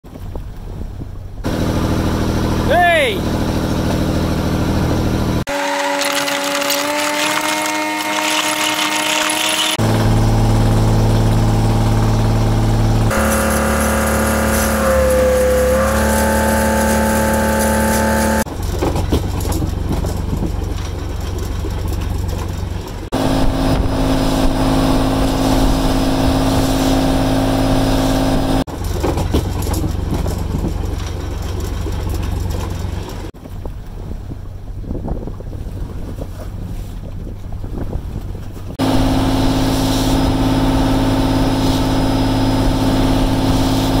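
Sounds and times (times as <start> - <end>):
boat engine running: 0.1 - 44.0.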